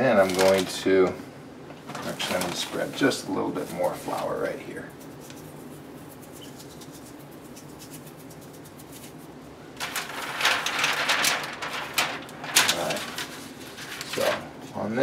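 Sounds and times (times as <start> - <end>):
parchment paper crinkling: 0.2 - 0.8, 1.9 - 14.5.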